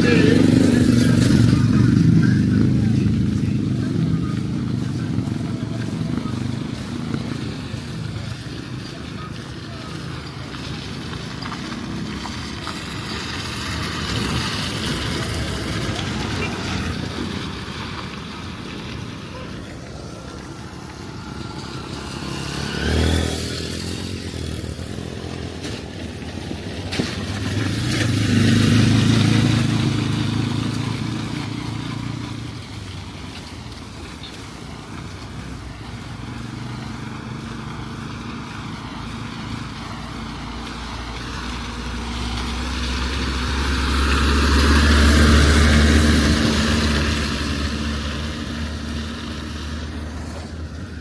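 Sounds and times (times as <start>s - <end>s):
vehicle engine passing by: 0.0s - 51.0s.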